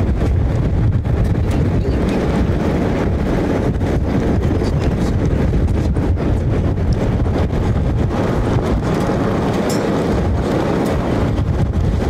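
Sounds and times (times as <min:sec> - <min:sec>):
vehicle road rumble: 0:00.0 - 0:12.0
wind buffeting microphone: 0:00.0 - 0:12.0.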